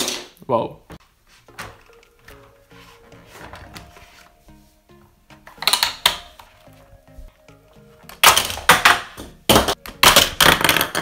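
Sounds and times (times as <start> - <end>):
quiet background music: 0.6 - 11.0.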